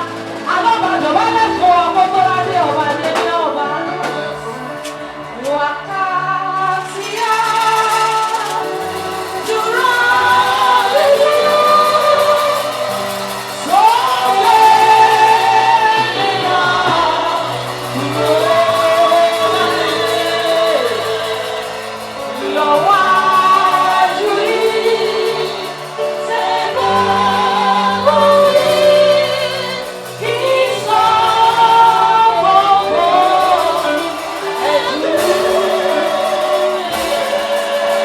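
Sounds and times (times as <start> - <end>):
band playing: 0.0 - 38.0
woman singing gospel: 0.0 - 38.0.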